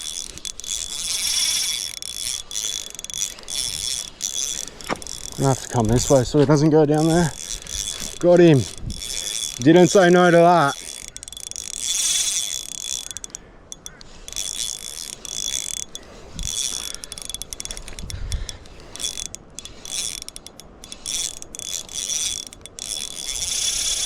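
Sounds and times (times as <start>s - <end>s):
fishing reel drag buzzing: 0.0s - 24.0s.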